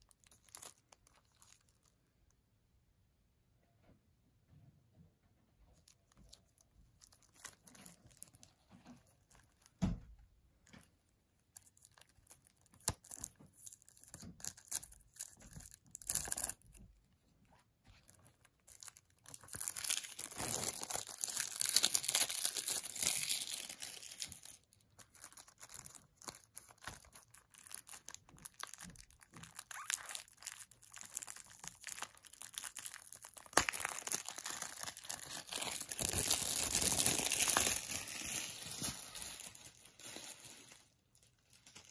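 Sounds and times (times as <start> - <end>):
plastic wrap tearing and crinkling: 0.0 - 2.0, 5.8 - 9.9, 10.6 - 41.9.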